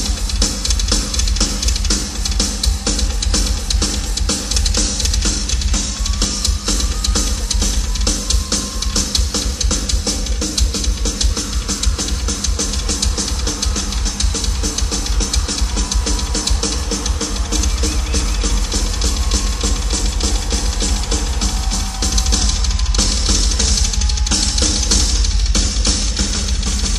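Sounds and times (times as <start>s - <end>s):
cymbals: 0.0s - 26.9s
fast bass drum and snare: 0.0s - 26.9s.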